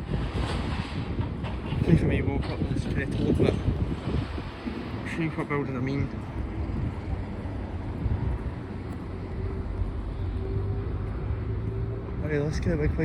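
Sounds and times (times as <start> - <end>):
low engine rumble: 0.8 - 13.0.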